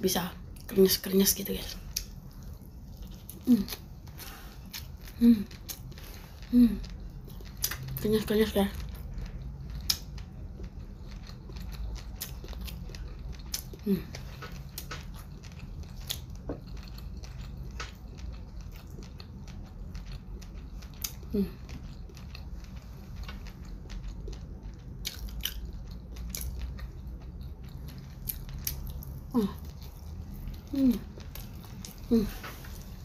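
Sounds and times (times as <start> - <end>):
chewing with small crunches: 0.1 - 33.0.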